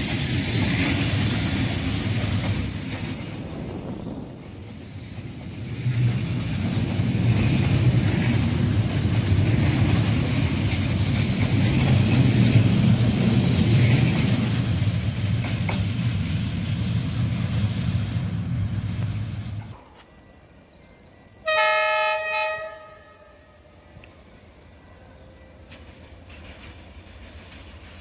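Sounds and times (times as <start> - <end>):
wheel-on-rail noise: 0.0 - 20.1, 20.7 - 28.0.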